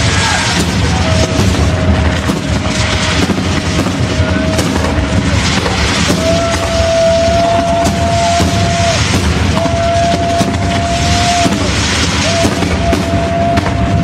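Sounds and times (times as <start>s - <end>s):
firework shells bursting: 0.0s - 14.0s
low rumble: 0.0s - 14.0s.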